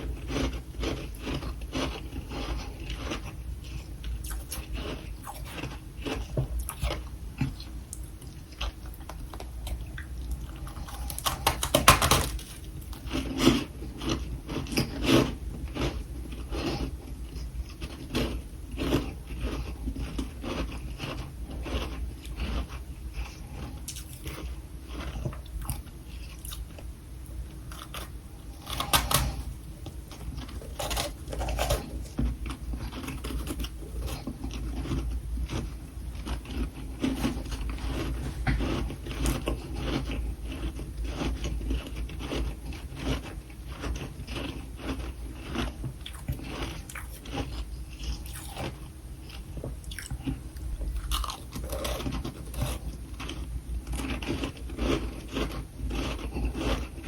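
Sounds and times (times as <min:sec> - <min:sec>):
person chewing something crunchy: 0:00.0 - 0:26.9, 0:27.6 - 0:57.0.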